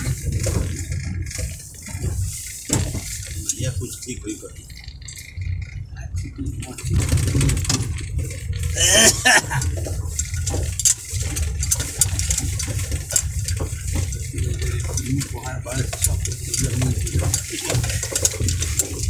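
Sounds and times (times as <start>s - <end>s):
car knocking and rattling: 0.0s - 19.0s
engine and tyres rumbling: 0.0s - 19.0s.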